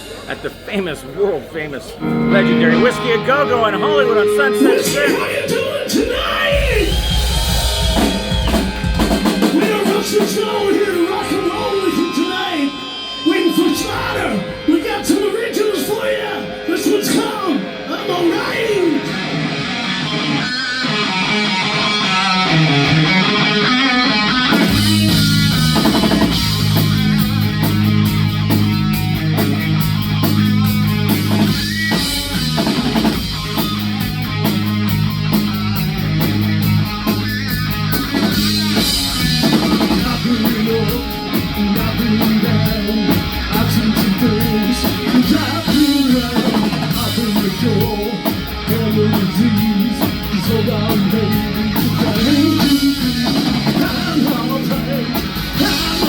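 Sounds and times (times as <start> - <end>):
drums: 0.0 - 56.0
bass guitar: 1.9 - 16.0, 16.6 - 56.0
electric guitar: 1.9 - 56.0.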